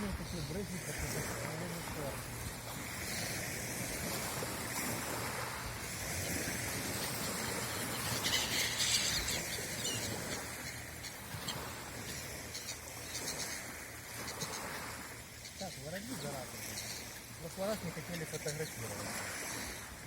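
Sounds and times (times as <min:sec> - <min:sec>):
small waves washing ashore: 0:00.0 - 0:20.0.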